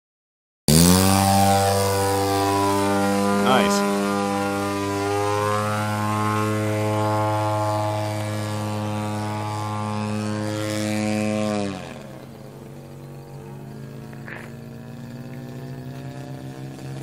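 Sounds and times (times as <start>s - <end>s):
model plane engine and propeller: 0.7s - 17.0s.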